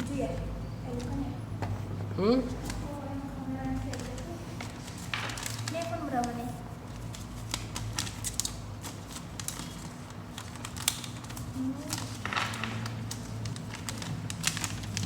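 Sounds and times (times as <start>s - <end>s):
packaging being handled: 2.5s - 15.0s.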